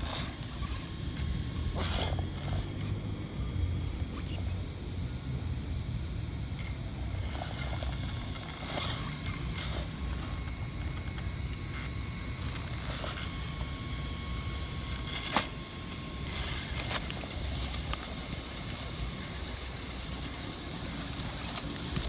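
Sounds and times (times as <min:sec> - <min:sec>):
toy car motor whining: 0:00.0 - 0:22.0.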